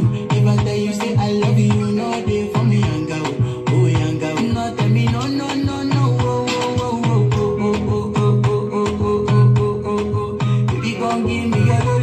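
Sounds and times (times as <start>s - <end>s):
dance music with deep bass: 0.0s - 12.0s.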